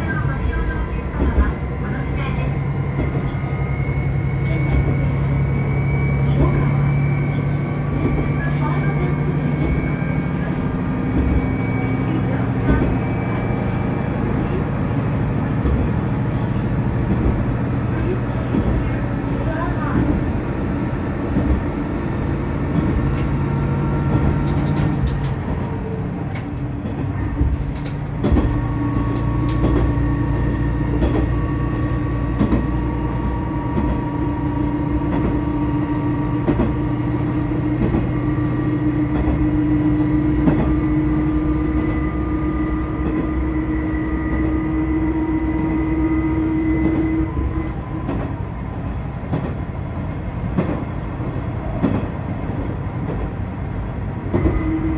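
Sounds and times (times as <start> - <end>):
diesel railcar engine drone: 0.0 - 54.9.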